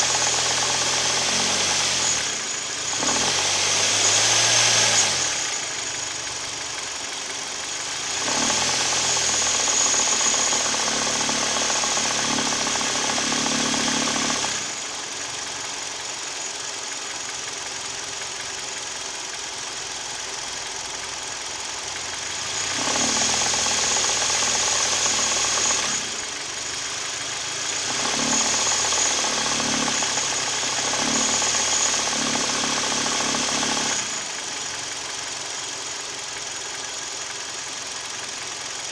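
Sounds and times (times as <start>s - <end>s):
car engine knocking: 5.5s - 38.9s.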